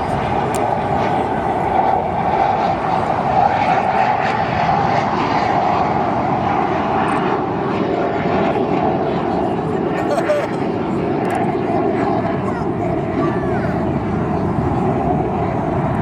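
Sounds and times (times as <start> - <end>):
aircraft engine noise: 0.0 - 16.0.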